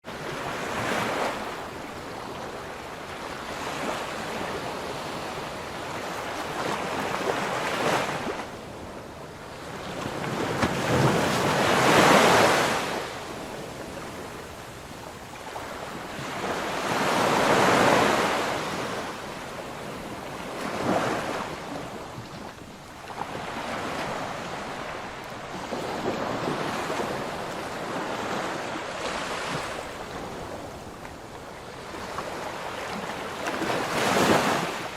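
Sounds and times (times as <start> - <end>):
sea waves breaking: 0.1 - 34.9.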